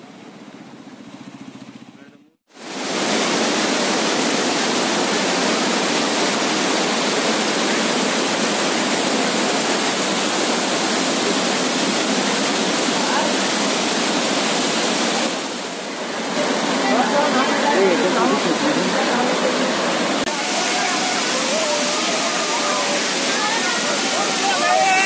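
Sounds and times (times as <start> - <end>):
waterfall rushing over rock: 2.5 - 25.0.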